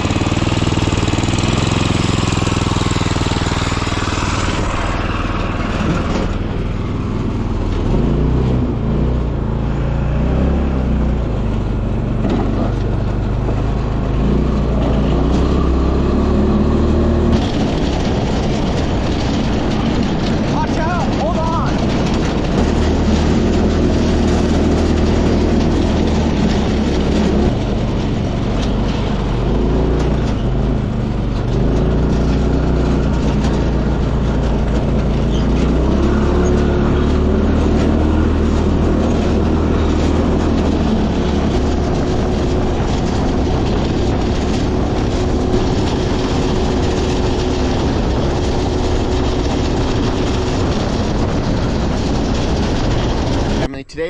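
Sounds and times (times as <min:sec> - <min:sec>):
go-kart engine running: 0:00.0 - 0:53.9.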